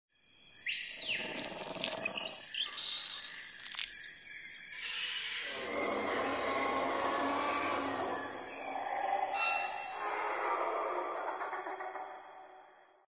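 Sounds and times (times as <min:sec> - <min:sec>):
insect buzz: 0:00.1 - 0:13.0
birds chirping: 0:00.6 - 0:13.0.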